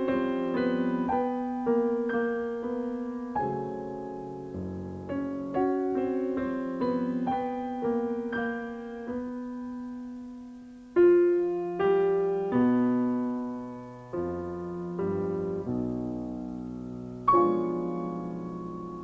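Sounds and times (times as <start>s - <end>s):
solo classical piano: 0.0s - 19.0s.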